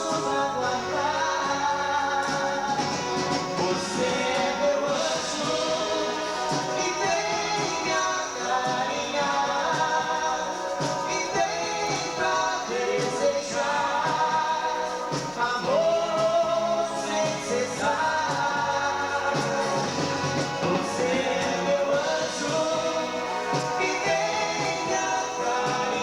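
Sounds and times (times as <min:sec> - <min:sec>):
dance band playing live: 0:00.0 - 0:26.0
person singing: 0:00.0 - 0:26.0.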